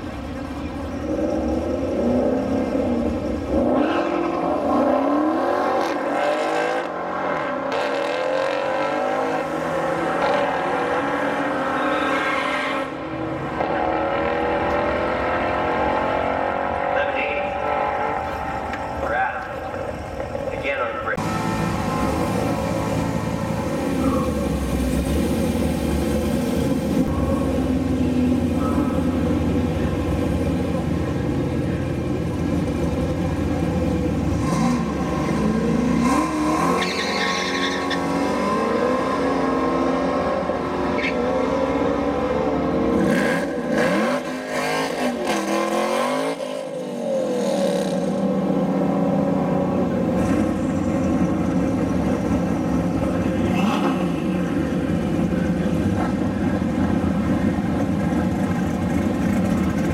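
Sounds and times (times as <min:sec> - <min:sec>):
car engines idling and revving: 0:00.0 - 0:59.9.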